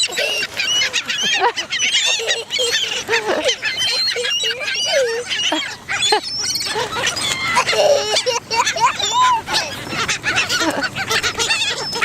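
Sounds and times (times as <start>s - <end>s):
seagulls squawking: 0.0s - 12.0s.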